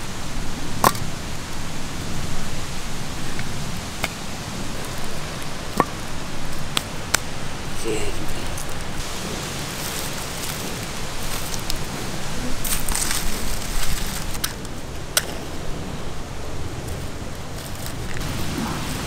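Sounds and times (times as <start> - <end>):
dry fronds rustling: 0.0 - 19.0
steady hiss: 0.0 - 19.0.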